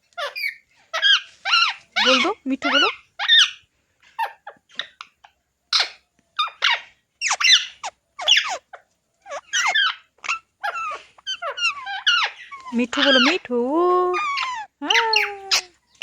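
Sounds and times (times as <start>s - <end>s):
parrot squawking and chattering: 0.0s - 16.0s.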